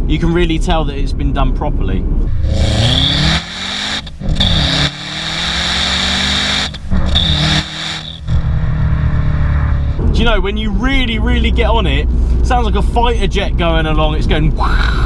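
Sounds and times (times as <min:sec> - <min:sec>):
car exhaust under hard acceleration: 0:02.0 - 0:15.0.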